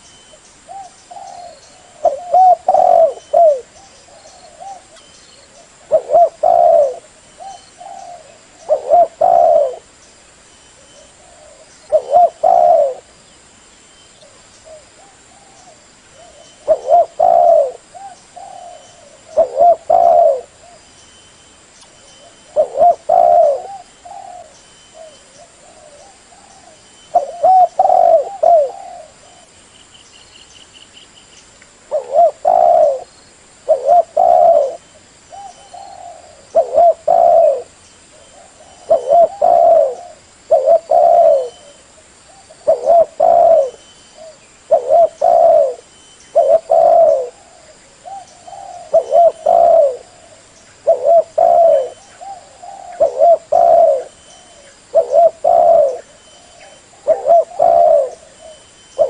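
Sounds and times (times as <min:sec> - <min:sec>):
dove cooing: 0:00.0 - 0:09.9, 0:10.8 - 0:13.2, 0:14.2 - 0:20.8, 0:22.2 - 0:29.6, 0:31.9 - 0:59.0.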